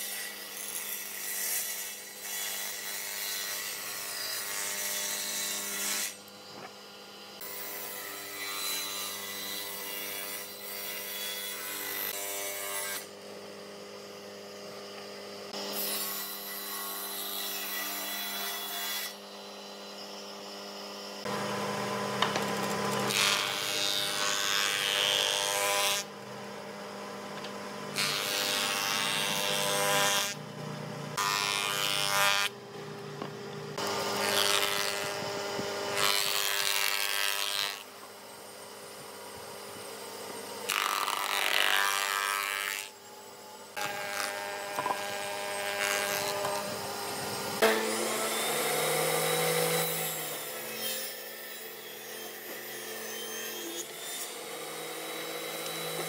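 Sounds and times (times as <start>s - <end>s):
saw cutting boards: 0.0s - 56.0s.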